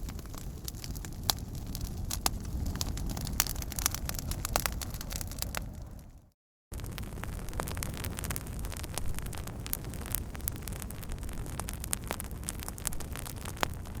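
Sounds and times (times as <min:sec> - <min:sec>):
low rumbling noise: 0:00.0 - 0:12.6
campfire crackling and popping: 0:00.0 - 0:14.0.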